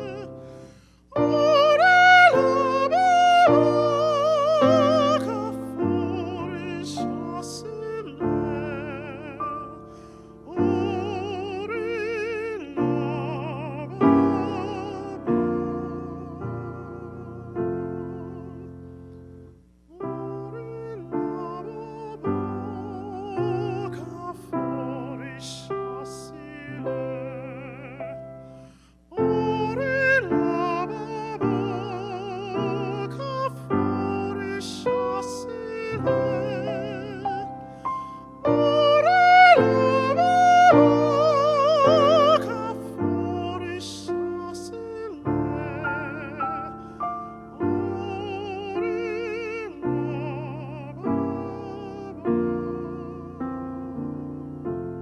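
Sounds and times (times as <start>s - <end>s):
operatic singing: 0.0s - 18.8s, 19.9s - 28.5s, 29.1s - 54.4s
piano accompaniment: 0.0s - 55.0s.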